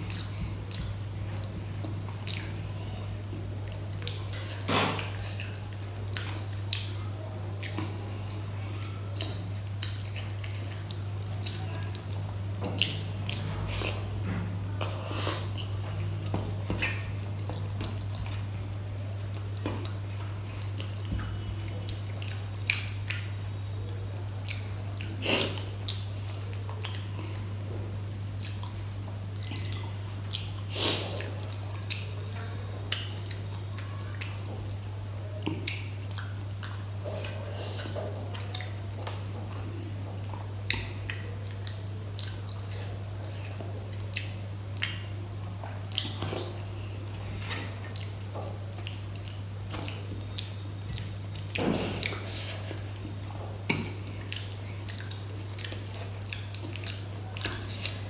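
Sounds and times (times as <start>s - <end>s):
lip smacks and chewing: 0.0s - 2.6s, 3.5s - 14.0s, 14.8s - 23.4s, 24.4s - 27.4s, 28.4s - 34.6s, 35.4s - 58.0s
steady low hum: 0.0s - 58.0s.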